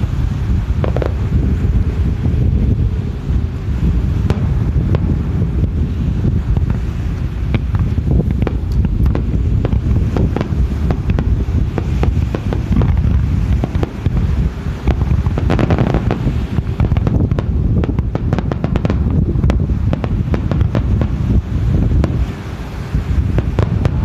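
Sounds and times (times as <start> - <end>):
fireworks bursting: 0.0 - 24.0
fireworks crackling: 0.0 - 24.0
low rumble: 0.0 - 24.0.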